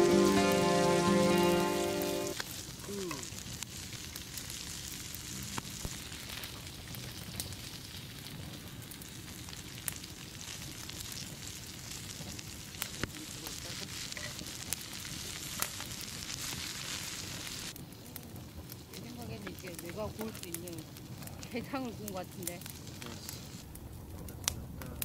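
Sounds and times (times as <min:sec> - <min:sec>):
food sizzling on a grill: 0:00.0 - 0:23.7
sharp pops from fire: 0:01.9 - 0:25.0.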